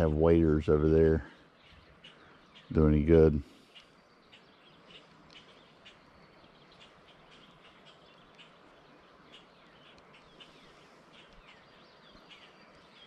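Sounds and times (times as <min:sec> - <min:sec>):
faint birdsong chirps: 0:00.0 - 0:13.0
quiet steady hiss: 0:00.0 - 0:13.0.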